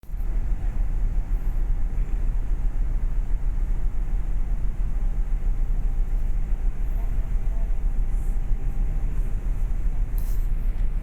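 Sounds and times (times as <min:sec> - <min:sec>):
ferry low rumble: 0:00.0 - 0:11.0.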